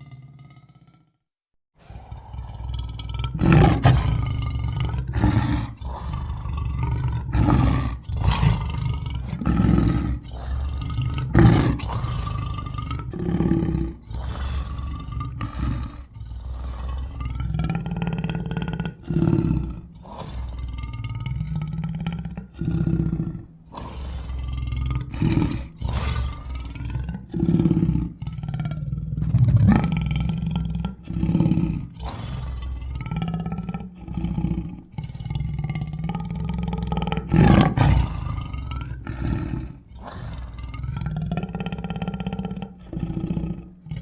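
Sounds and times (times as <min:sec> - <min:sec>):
cartoon animal roars and growls: 0:00.0 - 0:01.2, 0:01.8 - 0:44.0.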